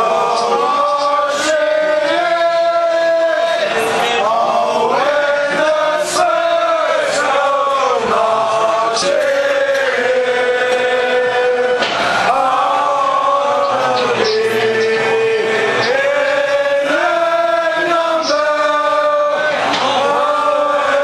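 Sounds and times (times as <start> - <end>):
crowd of men chanting: 0.0 - 21.0.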